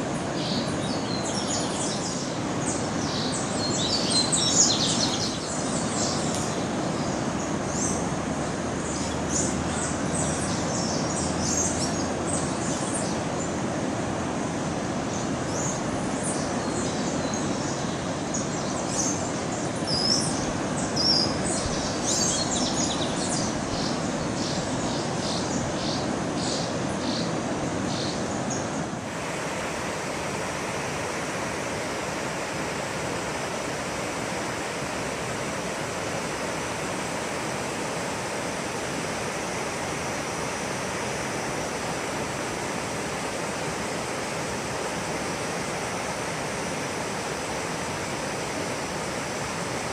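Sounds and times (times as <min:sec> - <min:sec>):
faint high steady whine: 0:00.0 - 0:49.9
steady rushing noise: 0:00.0 - 0:49.9.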